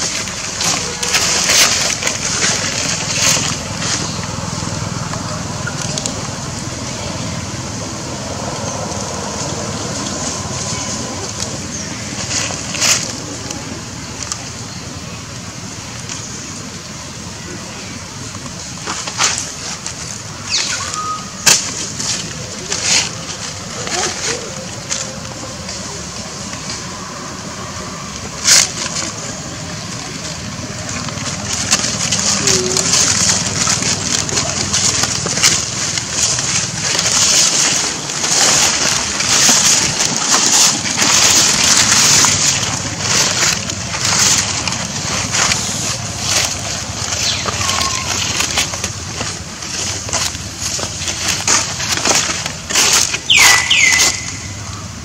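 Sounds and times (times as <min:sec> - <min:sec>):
rustling crackling noise: 0:00.0 - 0:55.0.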